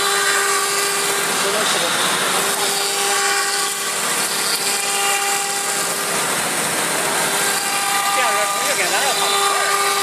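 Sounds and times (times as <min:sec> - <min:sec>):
cnc router spindle whine: 0:00.0 - 0:10.0.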